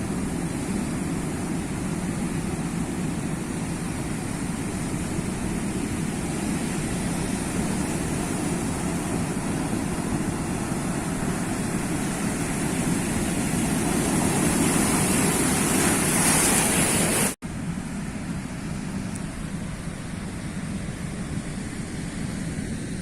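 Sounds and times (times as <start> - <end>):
waves rushing: 0.0 - 23.0.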